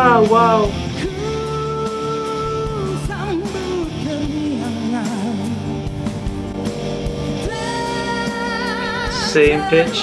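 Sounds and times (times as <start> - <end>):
person singing: 0.0 - 5.6, 7.4 - 10.0.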